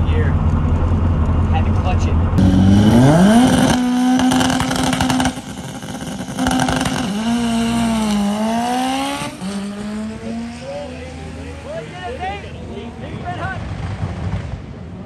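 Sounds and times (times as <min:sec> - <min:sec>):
race car engine revving: 0:00.3 - 0:15.0.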